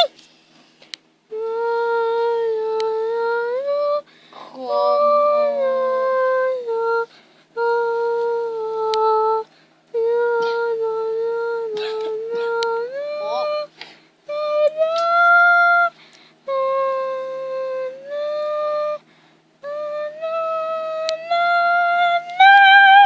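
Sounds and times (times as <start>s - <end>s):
child humming: 1.3s - 13.7s, 14.3s - 23.0s.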